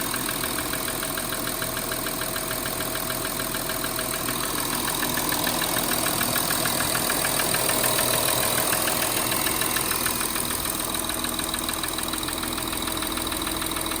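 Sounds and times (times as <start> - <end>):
diesel engine idling: 0.0 - 14.0
fast even engine ticking: 0.0 - 14.0.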